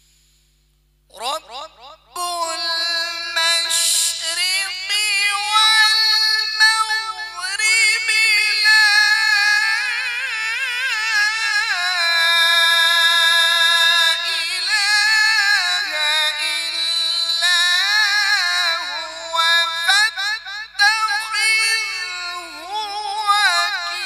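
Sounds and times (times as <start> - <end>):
man chanting melodically: 1.1 - 24.0.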